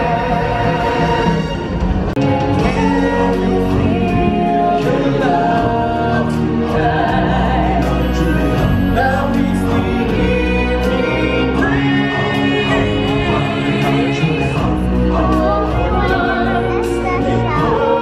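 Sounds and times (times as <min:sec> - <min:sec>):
amplified backing music: 0:00.0 - 0:18.0.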